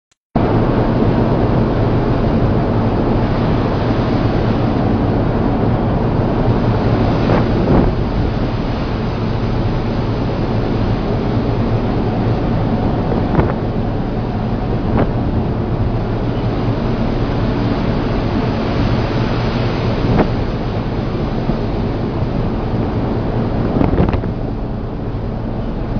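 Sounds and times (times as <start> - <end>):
low engine drone: 0.4 - 25.9
rough sea washing: 0.4 - 25.9
wave slaps: 0.4 - 25.9
wind buffeting microphone: 0.4 - 25.9.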